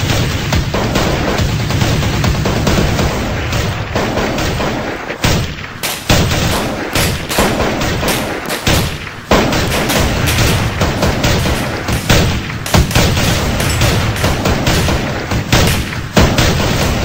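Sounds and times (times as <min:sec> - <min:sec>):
pistol shots: 0:02.4 - 0:17.0.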